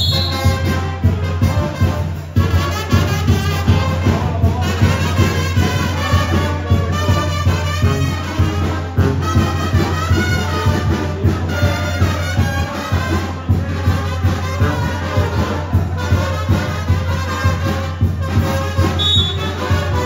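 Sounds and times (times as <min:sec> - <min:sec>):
brass music: 0:00.0 - 0:20.0.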